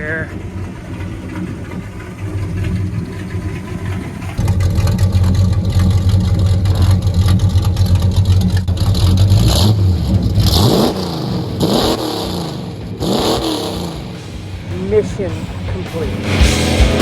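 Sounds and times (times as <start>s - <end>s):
truck engine through loud exhaust: 0.0s - 17.0s.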